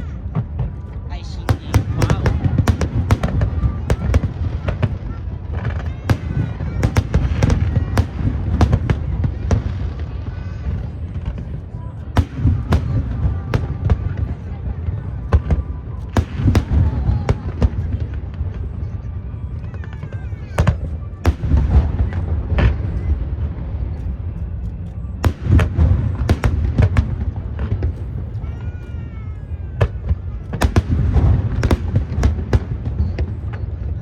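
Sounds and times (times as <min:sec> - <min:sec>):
fireworks bursting: 0:00.0 - 0:34.0
low rumble and crackle: 0:00.0 - 0:34.0.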